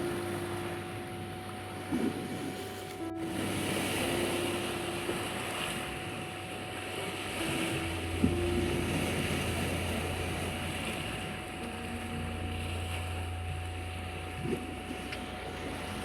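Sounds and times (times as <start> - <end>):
low hum: 0.0 - 16.0
sea waves washing in: 0.0 - 16.0
soft held music notes: 0.0 - 16.0
steady high tone: 0.0 - 16.0.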